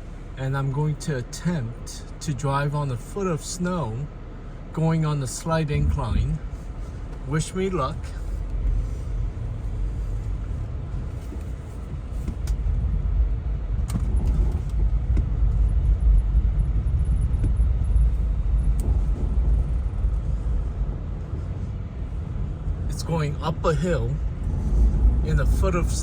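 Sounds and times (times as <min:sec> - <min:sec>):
vehicle engine rumble in snow: 0:00.0 - 0:26.0.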